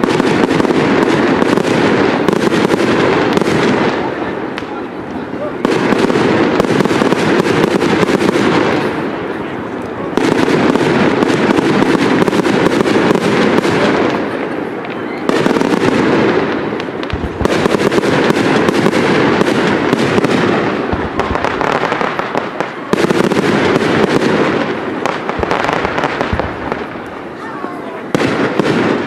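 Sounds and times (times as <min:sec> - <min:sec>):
deep firework booms: 0:00.0 - 0:29.0
fireworks crackling: 0:00.0 - 0:29.0.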